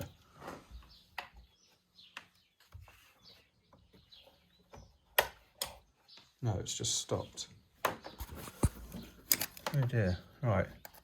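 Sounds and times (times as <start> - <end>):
faint bird chirps: 0.0 - 9.3.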